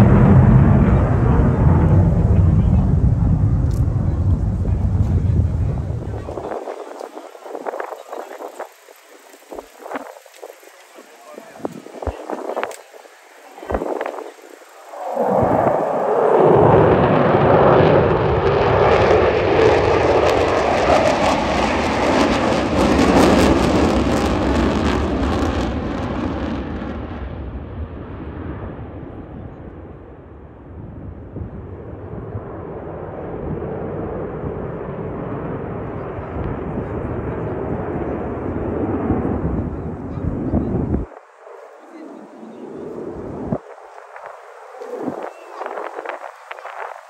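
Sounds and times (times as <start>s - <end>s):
airplane engine roaring past: 0.0s - 47.0s.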